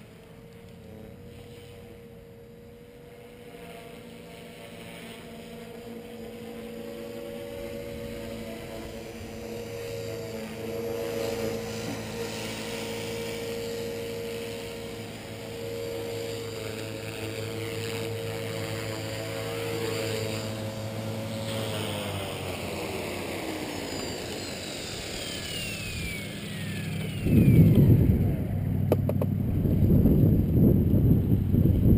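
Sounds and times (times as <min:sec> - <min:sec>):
rc helicopter rotor whine: 0:00.0 - 0:31.9.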